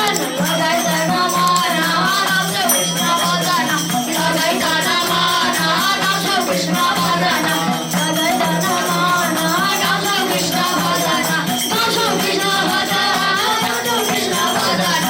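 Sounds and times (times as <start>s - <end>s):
boys singing devotional song: 0.0s - 15.0s
jingling hand percussion: 0.0s - 15.0s.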